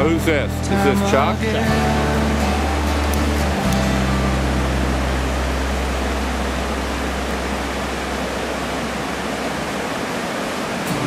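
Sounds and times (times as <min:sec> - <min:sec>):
music track: 0:00.0 - 0:09.0
whitewater rushing over rocks: 0:00.0 - 0:11.0.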